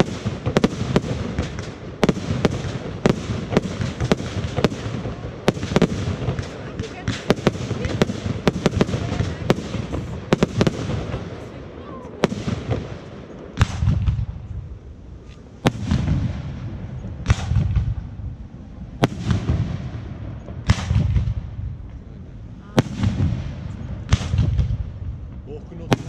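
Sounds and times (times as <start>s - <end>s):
fireworks bangs: 0.0s - 26.0s
low rolling rumble: 2.7s - 26.0s.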